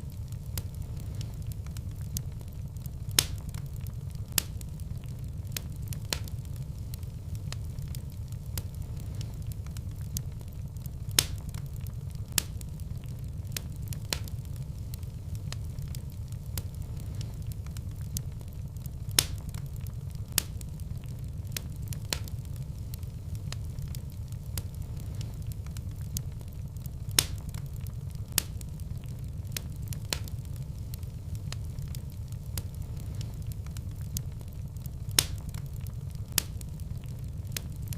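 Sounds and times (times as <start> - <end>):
fireplace fire crackling: 0.0 - 37.9.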